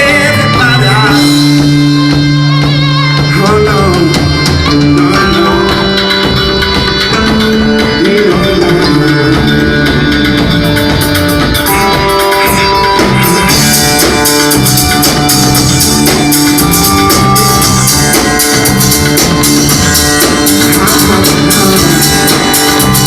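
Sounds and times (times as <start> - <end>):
cumbia band music: 0.0 - 23.0.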